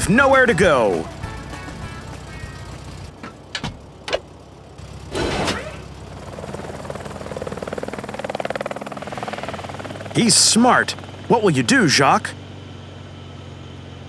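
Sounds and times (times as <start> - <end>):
pulsing mechanical whirr: 0.0 - 14.0.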